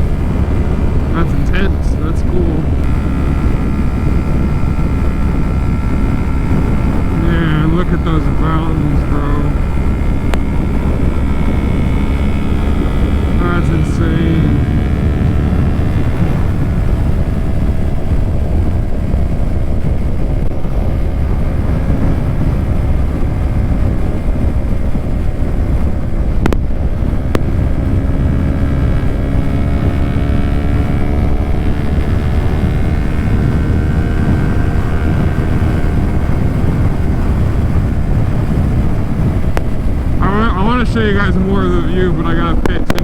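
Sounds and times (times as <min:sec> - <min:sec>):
motorcycle engine: 0:00.0 - 0:43.0
wind rush over helmet: 0:00.0 - 0:43.0.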